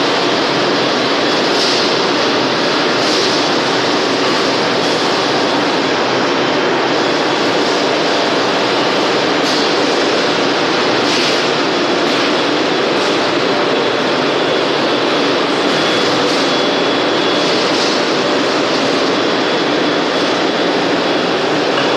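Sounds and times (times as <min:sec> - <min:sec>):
loud machine din: 0:00.0 - 0:21.9.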